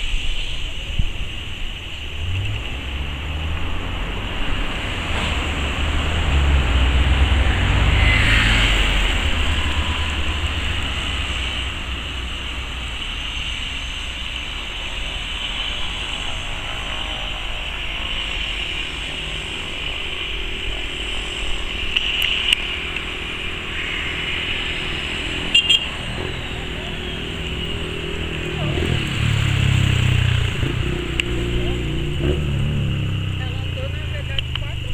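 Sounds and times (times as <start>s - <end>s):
turbine whine: 0.0s - 34.9s
propeller drone: 0.2s - 34.9s.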